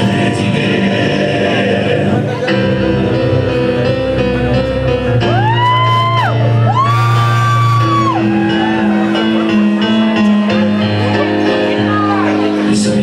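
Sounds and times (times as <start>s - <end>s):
bass: 0.0s - 13.0s
keyboard chords: 0.0s - 13.0s.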